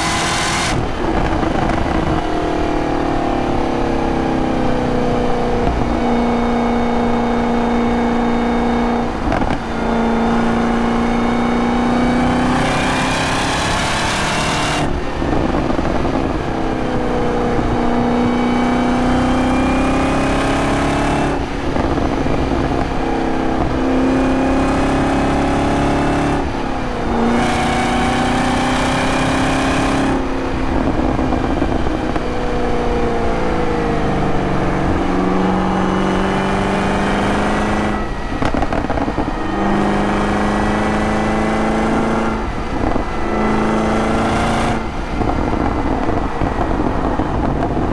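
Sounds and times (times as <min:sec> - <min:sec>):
car engine running under load: 0:00.0 - 0:47.9.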